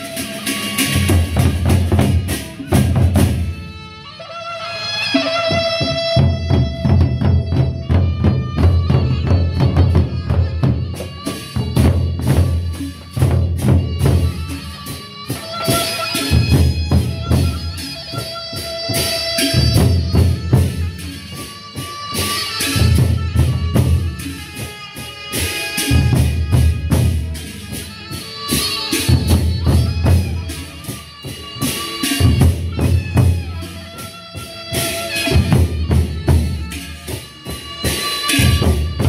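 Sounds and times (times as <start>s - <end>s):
barrel drums beaten with sticks: 0.0s - 3.8s, 5.3s - 39.0s.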